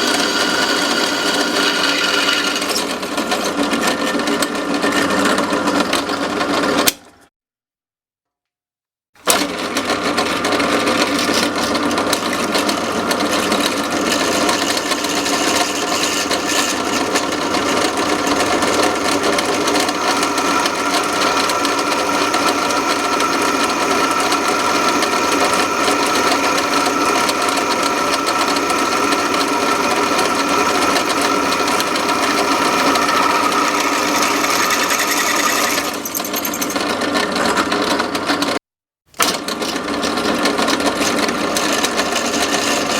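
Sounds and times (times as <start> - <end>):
drill press whining: 0.0 - 7.0, 9.2 - 42.9.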